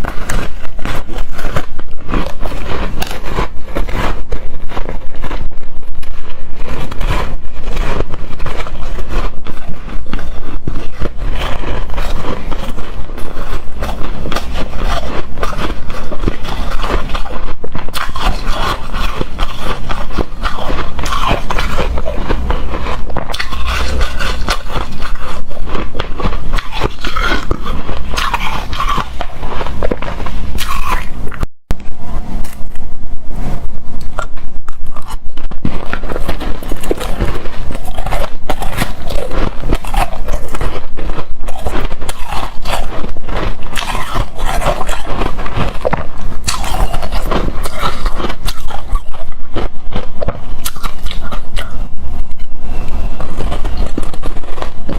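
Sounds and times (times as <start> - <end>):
shaved ice crunching when chewed: 0.0 - 31.4, 34.0 - 54.9.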